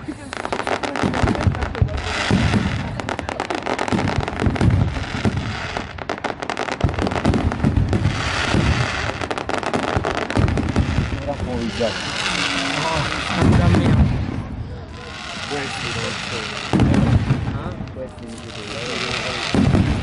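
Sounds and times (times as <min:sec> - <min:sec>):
fireworks booms: 0:00.0 - 0:20.0
fireworks crackling pops: 0:00.0 - 0:20.0.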